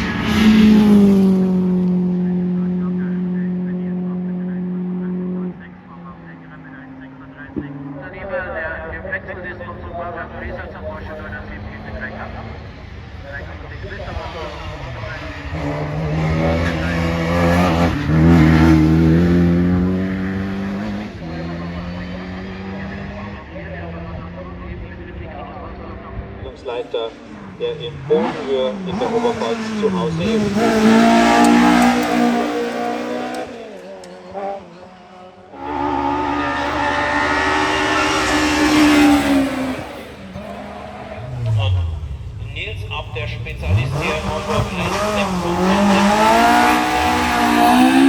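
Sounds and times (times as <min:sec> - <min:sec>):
race car engine accelerating: 0:00.0 - 0:48.0.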